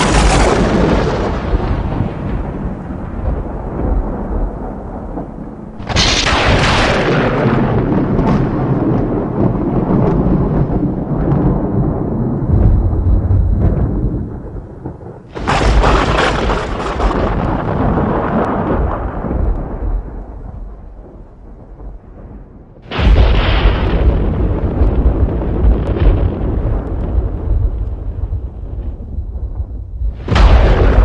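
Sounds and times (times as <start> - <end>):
thunder cracking and rumbling: 0.0 - 31.0.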